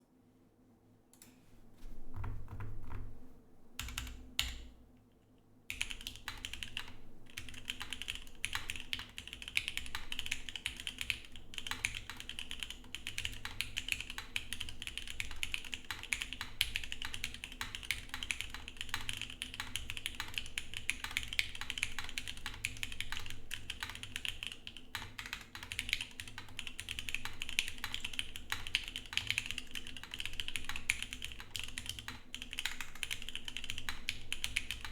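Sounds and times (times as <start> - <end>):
mechanical keyboard typing: 3.8 - 4.7, 5.7 - 34.9.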